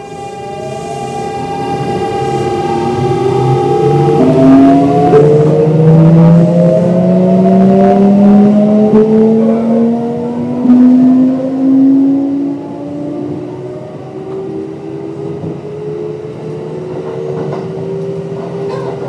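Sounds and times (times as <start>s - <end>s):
train motor whine: 0.0s - 18.6s.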